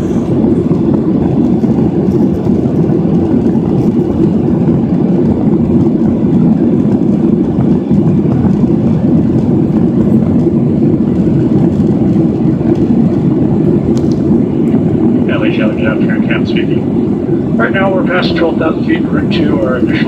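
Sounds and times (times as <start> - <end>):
jet engine drone: 0.0 - 20.0
rushing air: 0.0 - 20.0.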